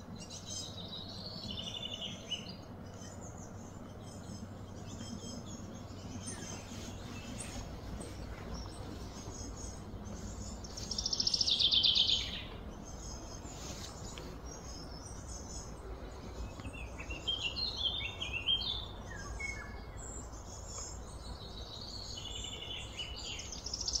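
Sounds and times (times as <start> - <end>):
birds chirping: 0.0 - 24.0
low background hum: 0.0 - 24.0.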